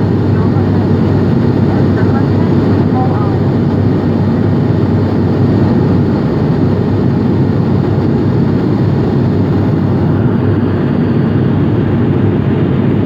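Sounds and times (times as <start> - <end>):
turboprop engines droning in cabin: 0.0 - 13.0.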